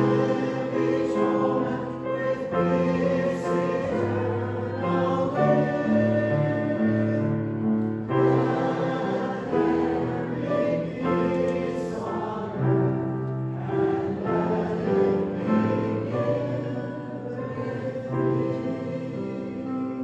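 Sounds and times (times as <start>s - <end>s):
slow choral music: 0.0s - 20.0s.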